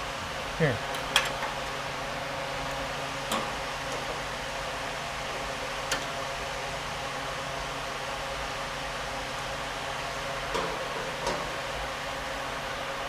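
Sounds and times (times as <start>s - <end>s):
fan-like hum and hiss: 0.0s - 13.0s.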